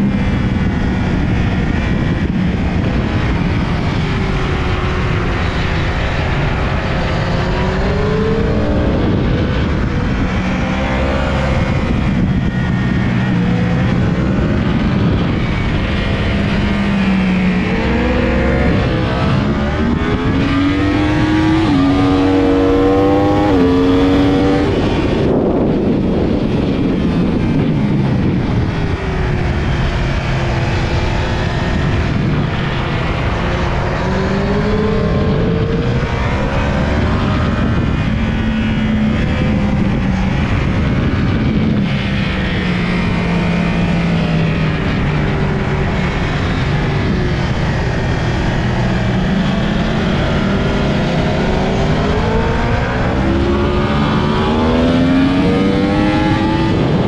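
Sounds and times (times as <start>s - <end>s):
motorcycle engine at full throttle: 0.0s - 57.0s.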